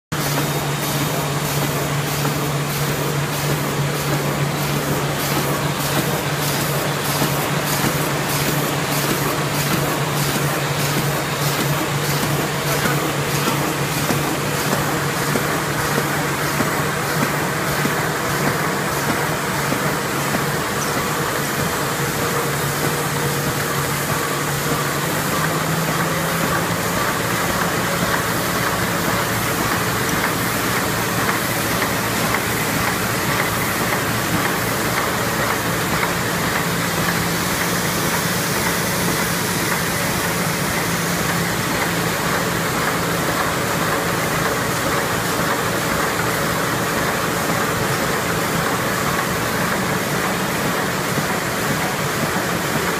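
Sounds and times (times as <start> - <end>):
envelope making machine running: 0.1 - 52.9.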